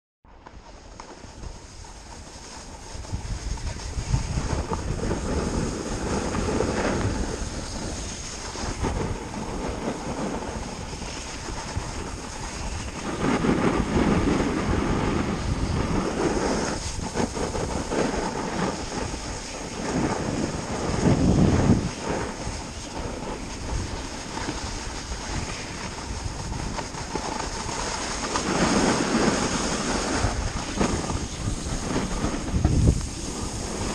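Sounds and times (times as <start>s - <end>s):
snowboard scraping on snow: 0.3s - 33.9s
wind on microphone: 0.3s - 33.9s.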